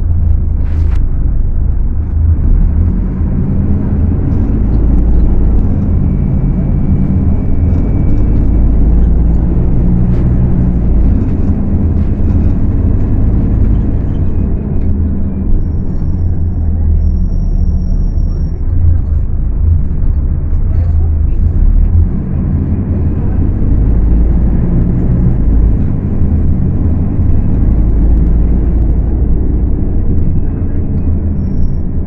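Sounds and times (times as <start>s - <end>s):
bus diesel engine rumbling: 0.0s - 32.0s.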